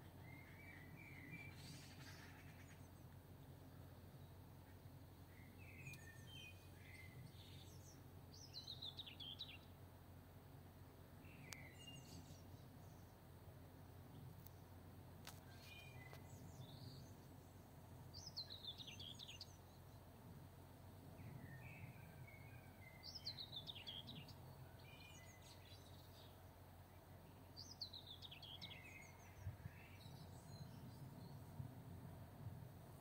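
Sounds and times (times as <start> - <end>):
soft bird chirps: 0.0 - 3.1, 4.1 - 9.8, 11.2 - 13.2, 14.1 - 20.2, 21.2 - 31.5
steady low hum: 0.0 - 33.0.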